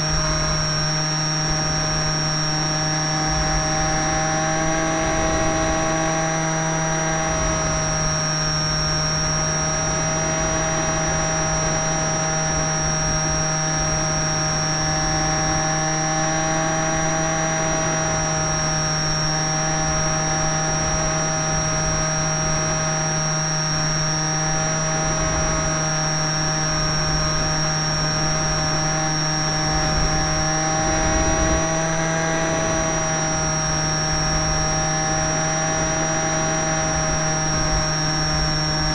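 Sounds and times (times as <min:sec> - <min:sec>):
model plane motor whining: 0:00.0 - 0:38.9
wind rumbling on microphone: 0:00.0 - 0:38.9.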